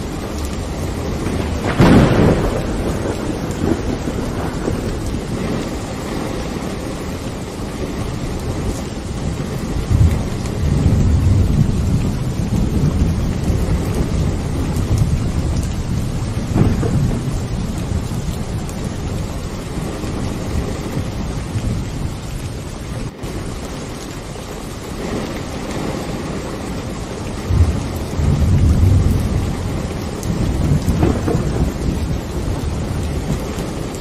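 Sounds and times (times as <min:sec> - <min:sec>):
low rolling thunder: 0:00.0 - 0:34.0
steady rain: 0:00.0 - 0:34.0.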